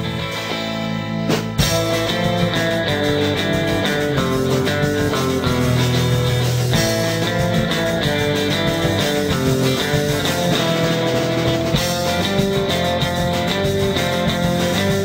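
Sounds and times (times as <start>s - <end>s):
rock instrumental music: 0.0s - 15.0s.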